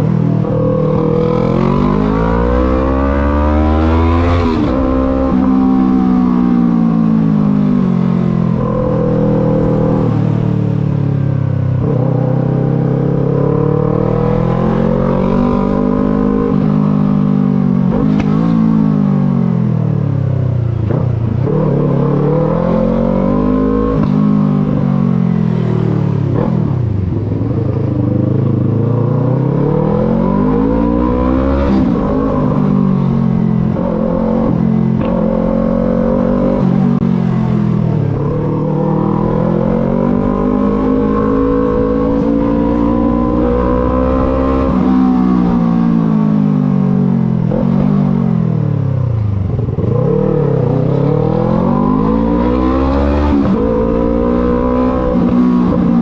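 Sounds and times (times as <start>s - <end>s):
motorcycle engine and exhaust: 0.0s - 56.0s.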